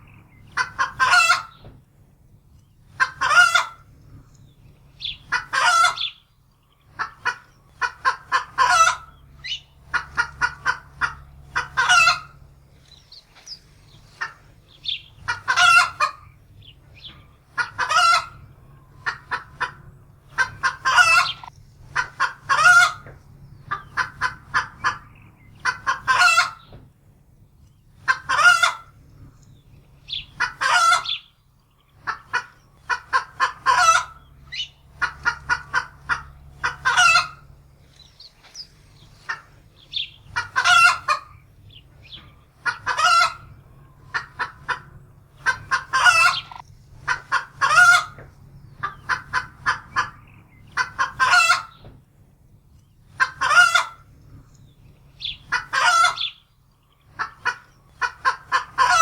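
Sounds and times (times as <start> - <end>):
hen clucking and squawking: 0.0 - 1.8, 2.8 - 26.8, 27.8 - 59.0.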